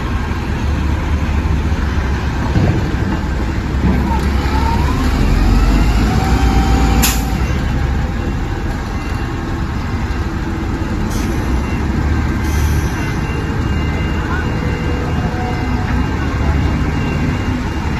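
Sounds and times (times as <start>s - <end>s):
forklift diesel engine running: 0.0s - 17.9s.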